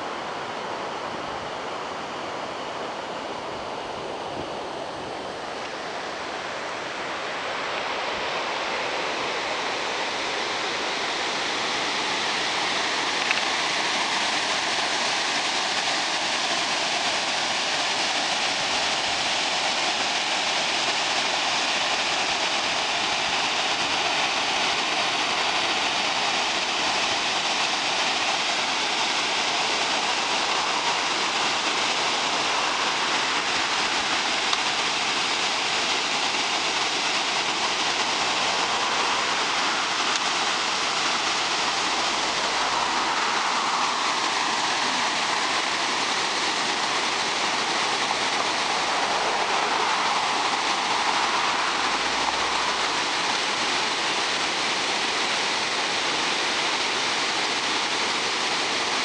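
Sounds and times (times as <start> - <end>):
water rushing over a weir: 0.0 - 59.0.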